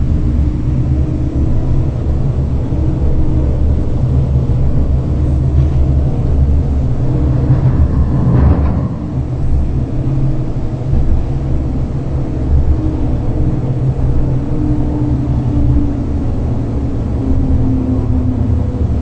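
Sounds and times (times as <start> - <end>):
tram ride rumble: 0.0 - 19.0.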